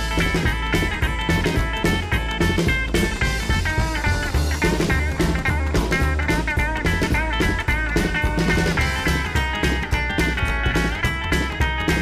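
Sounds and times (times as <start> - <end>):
rock song with electric guitar: 0.0 - 12.0.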